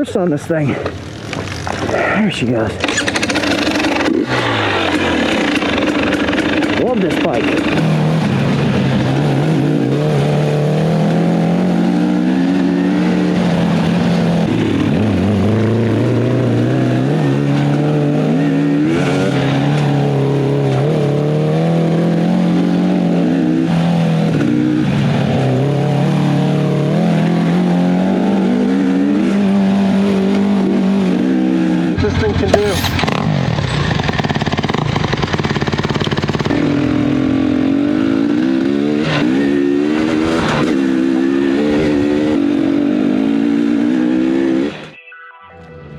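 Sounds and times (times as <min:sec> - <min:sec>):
off-road vehicle motor running: 0:00.0 - 0:44.9.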